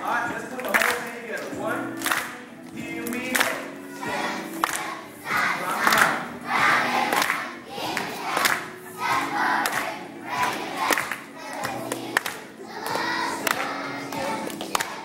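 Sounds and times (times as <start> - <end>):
children singing and chanting: 2.4 - 15.0.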